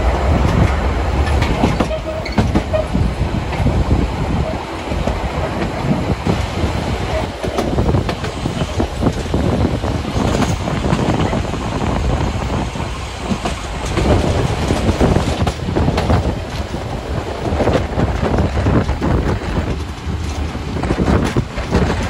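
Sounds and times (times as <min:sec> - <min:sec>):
train running on track: 0:00.0 - 0:22.0
wheels clicking over rail joints: 0:00.0 - 0:22.0.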